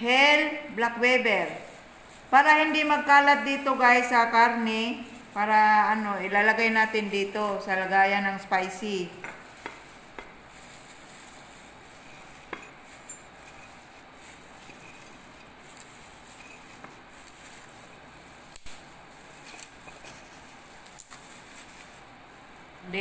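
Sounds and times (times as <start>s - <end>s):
plastic glove crinkling: 0.0s - 23.0s.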